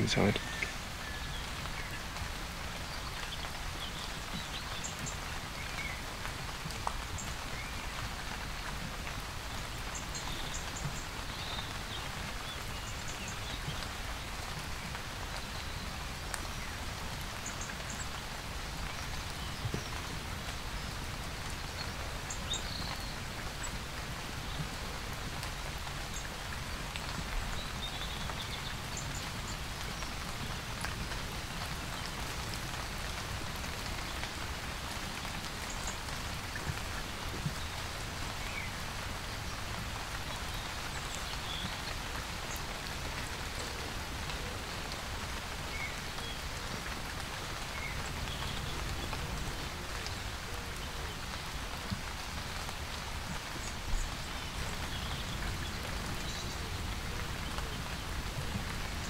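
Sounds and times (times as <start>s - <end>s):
rain pattering on fabric: 0.0s - 59.0s.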